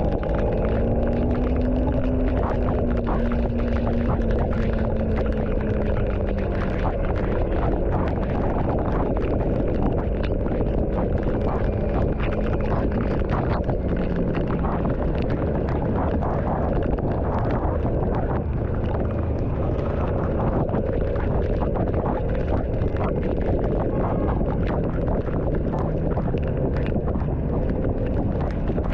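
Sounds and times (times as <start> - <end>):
raindrops tapping: 0.0 - 28.9
wind rumble on microphone: 0.0 - 28.9.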